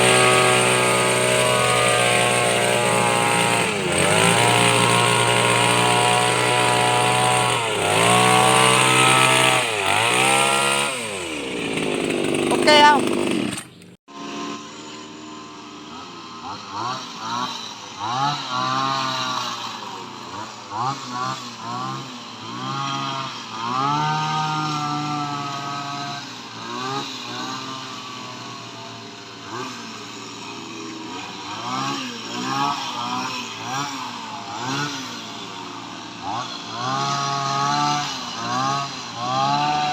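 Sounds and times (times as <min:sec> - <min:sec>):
hedge trimmer engine revving: 0:00.0 - 0:39.9.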